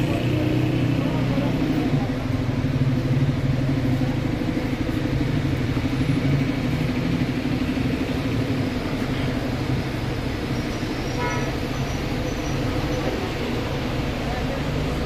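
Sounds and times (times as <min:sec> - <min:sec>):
street traffic: 0:00.0 - 0:15.0
vehicle engine idling: 0:00.0 - 0:15.0.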